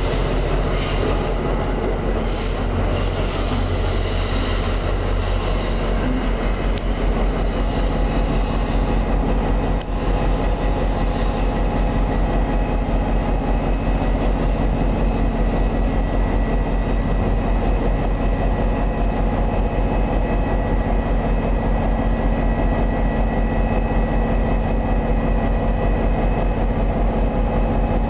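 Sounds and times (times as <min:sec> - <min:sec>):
train machinery droning: 0:00.0 - 0:28.0.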